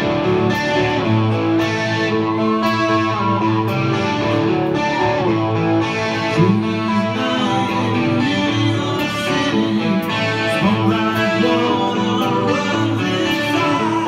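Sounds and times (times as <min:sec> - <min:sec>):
electric guitar rock playing: 0:00.0 - 0:14.0.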